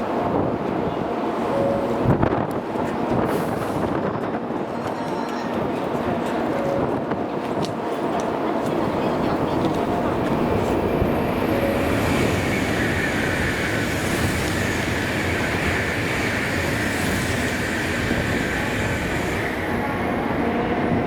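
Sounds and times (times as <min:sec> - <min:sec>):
train rushing past: 0:00.0 - 0:21.0.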